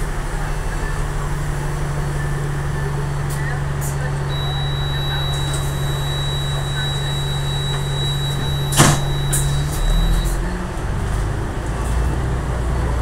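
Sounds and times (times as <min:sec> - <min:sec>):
bus engine hum: 0:00.0 - 0:13.0
road noise: 0:00.0 - 0:13.0.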